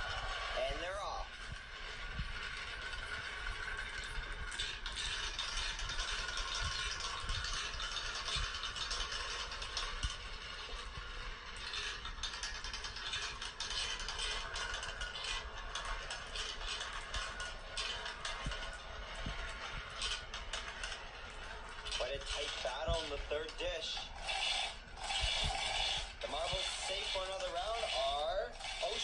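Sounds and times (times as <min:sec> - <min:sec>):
marbles rolling on track: 0:00.0 - 0:29.0.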